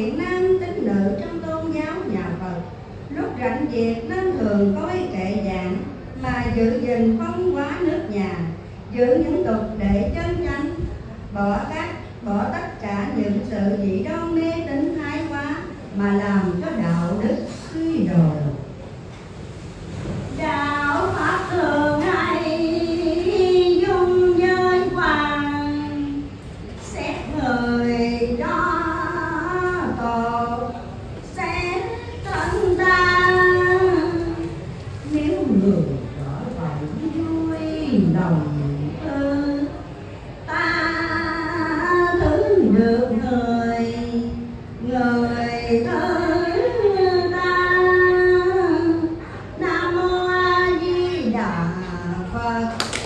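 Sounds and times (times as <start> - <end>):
woman chanting: 0.0 - 18.6, 20.4 - 39.8, 40.4 - 53.0.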